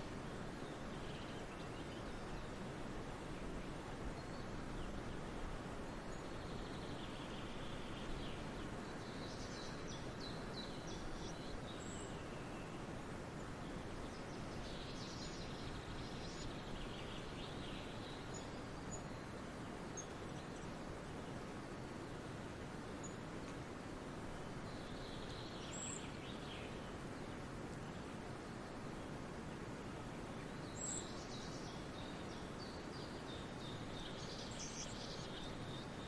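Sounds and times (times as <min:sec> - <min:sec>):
outdoor background noise: 0:00.0 - 0:36.0
small birds singing: 0:00.0 - 0:36.0.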